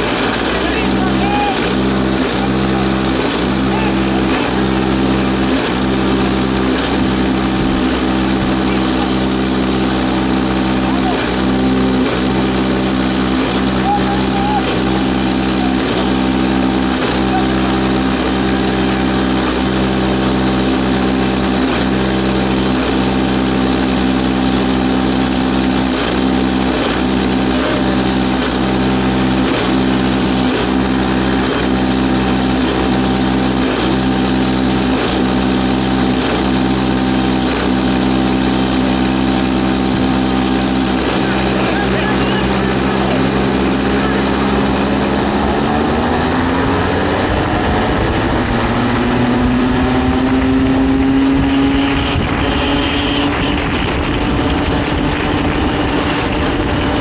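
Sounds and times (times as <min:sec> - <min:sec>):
kart engine idling: 0:00.0 - 0:57.0.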